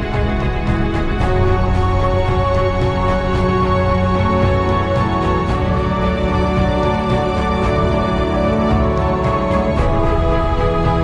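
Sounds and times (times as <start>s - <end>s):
background music with sustained chords: 0.0s - 11.0s.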